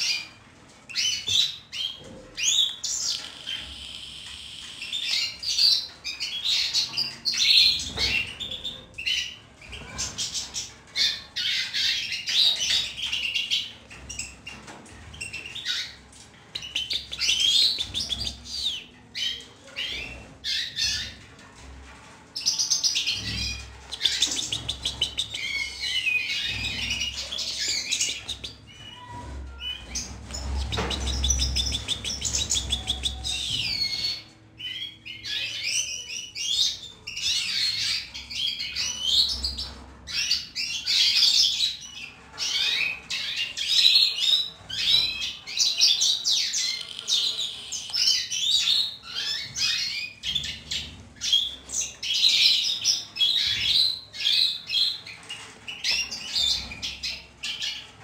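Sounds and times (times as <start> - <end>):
finches chirping and twittering: 0.9 - 21.3, 22.4 - 57.9.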